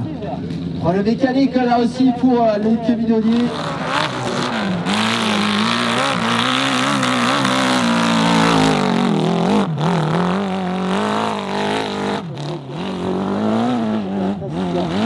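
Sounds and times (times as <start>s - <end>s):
motorcycle engine revving: 2.3s - 15.0s.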